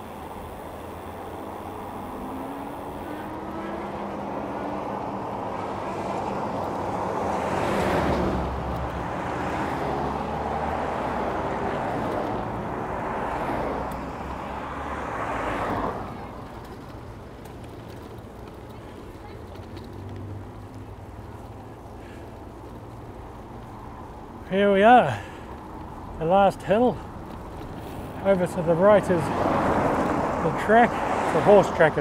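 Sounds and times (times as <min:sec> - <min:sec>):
vehicles passing by: 0:00.0 - 0:32.0.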